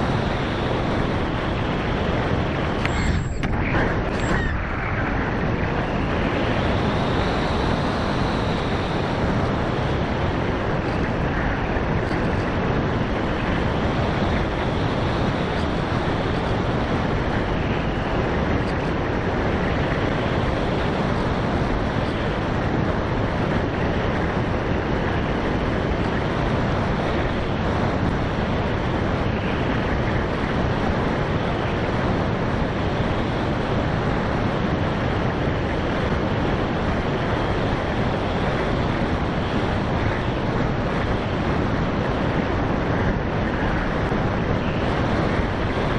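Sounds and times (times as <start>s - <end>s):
wind rushing on microphone: 0.0s - 45.9s.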